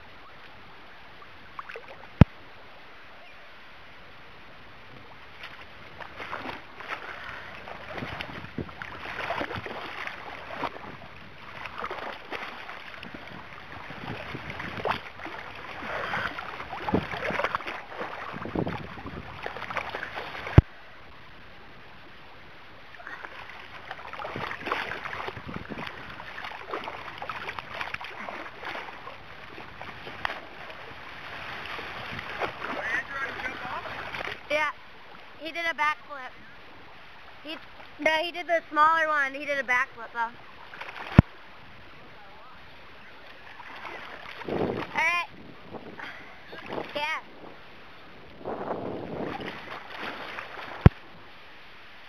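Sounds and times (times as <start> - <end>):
water lapping around a boat: 0.0 - 52.0.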